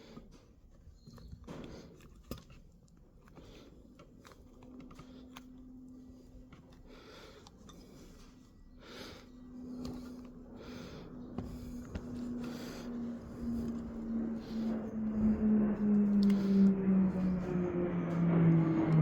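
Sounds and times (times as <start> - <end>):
steady low hum: 3.0 - 19.0.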